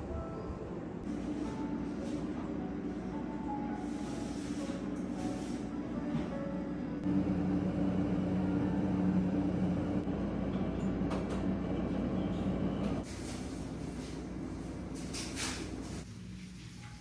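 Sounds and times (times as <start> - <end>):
refrigerator humming: 0.2 - 17.0.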